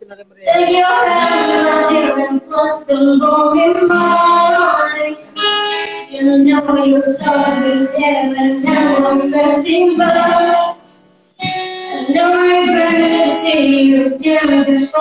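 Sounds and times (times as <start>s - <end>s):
woman singing into a microphone: 0.4s - 15.0s.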